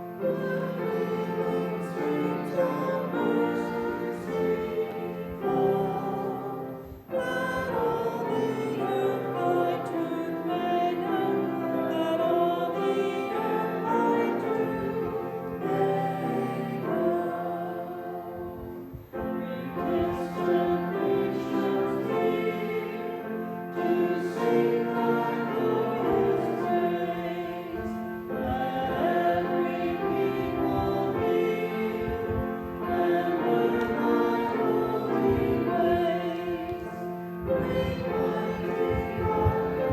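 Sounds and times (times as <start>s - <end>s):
congregation singing a hymn: 0.0s - 39.9s
piano accompaniment: 0.0s - 39.9s.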